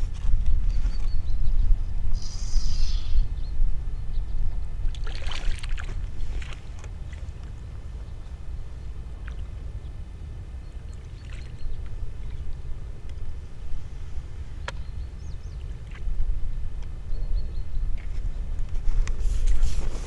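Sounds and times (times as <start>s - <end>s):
low wind rumble on microphone: 0.0s - 20.0s.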